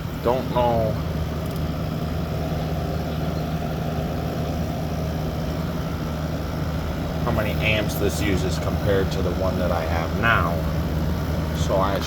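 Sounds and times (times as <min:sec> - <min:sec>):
compressor hum: 0:00.0 - 0:12.0
condenser fan rushing: 0:00.0 - 0:12.0.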